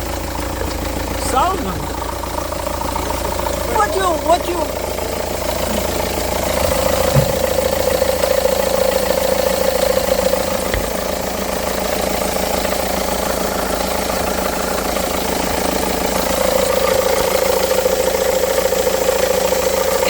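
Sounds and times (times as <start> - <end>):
car engine idling: 0.0 - 20.0
mid-pitched pulley drone: 0.0 - 20.0.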